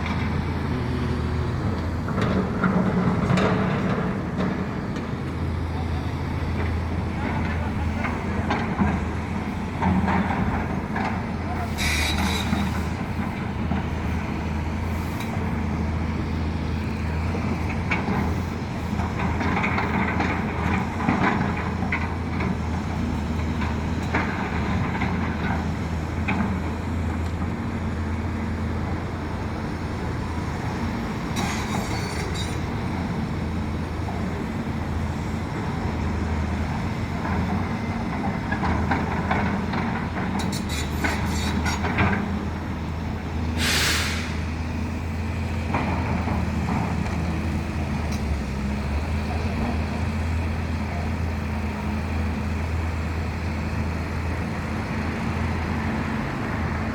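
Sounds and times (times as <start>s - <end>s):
excavator engine drone: 0.0s - 56.9s.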